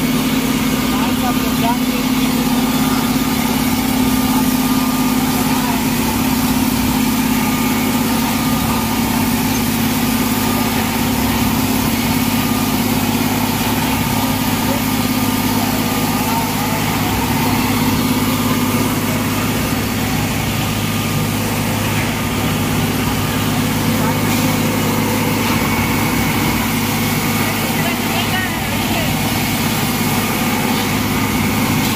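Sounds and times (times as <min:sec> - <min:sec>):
diesel engine running steadily: 0:00.0 - 0:31.9.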